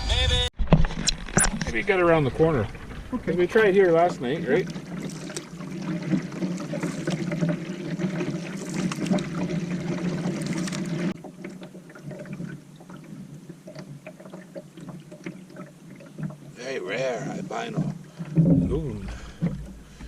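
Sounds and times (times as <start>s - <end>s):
water splashing off canoe paddle: 0.6s - 20.0s
small drips and knocks: 2.9s - 20.0s.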